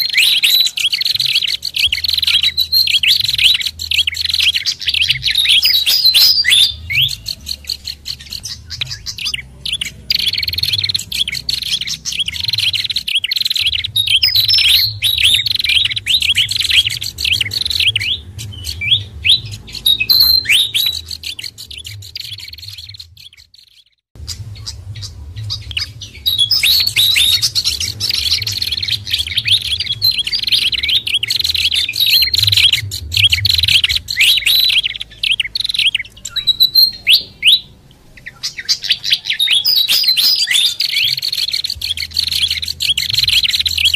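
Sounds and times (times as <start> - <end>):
low hum: 0.0 - 23.6, 24.2 - 38.4
birds chirping and chattering: 0.0 - 43.9.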